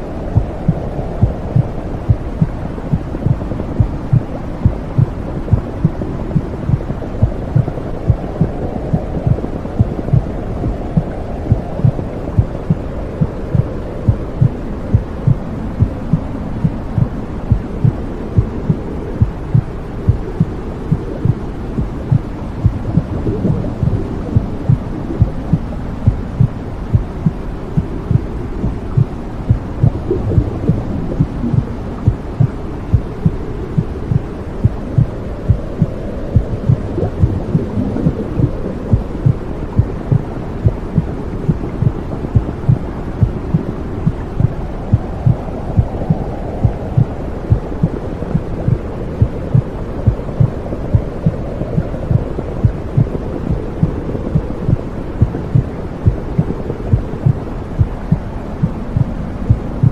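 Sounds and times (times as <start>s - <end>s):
low whooshing rumble: 0.0s - 59.9s
steady heartbeat: 0.0s - 59.9s.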